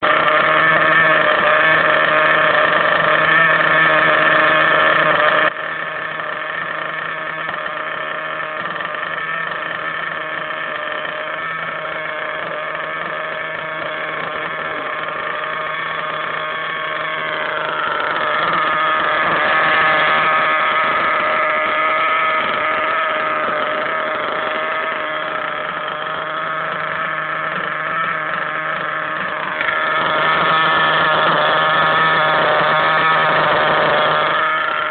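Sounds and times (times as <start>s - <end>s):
model engine buzzing whine: 0.0s - 34.9s.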